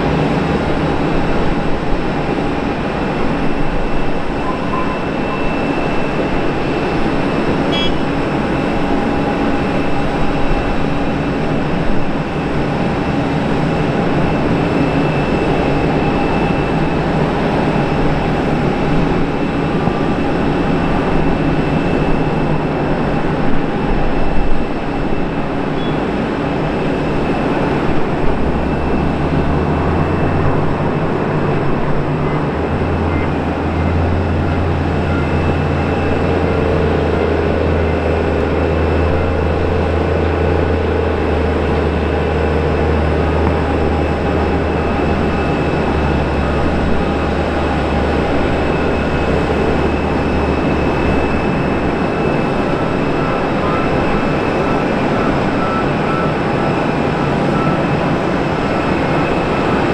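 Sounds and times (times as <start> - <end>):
low hum: 0.0 - 55.2
jet engines rushing with whine: 0.0 - 59.9.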